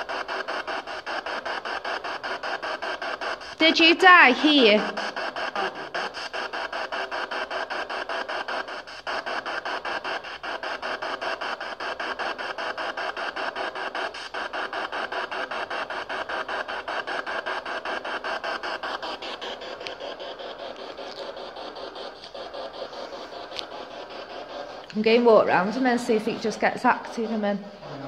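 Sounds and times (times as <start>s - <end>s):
pulsing radio static: 0.0s - 28.0s.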